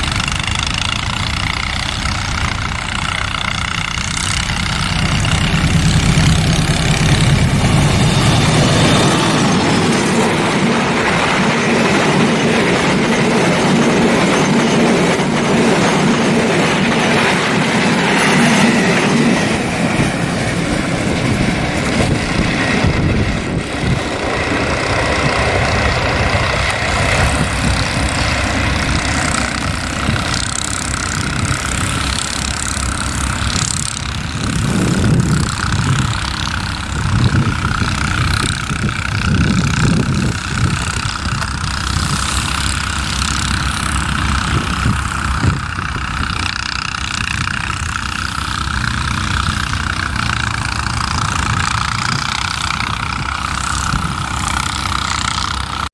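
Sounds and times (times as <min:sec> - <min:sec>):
locomotive engine drone: 0:00.0 - 0:55.9
train wheels on rails: 0:00.0 - 0:55.9.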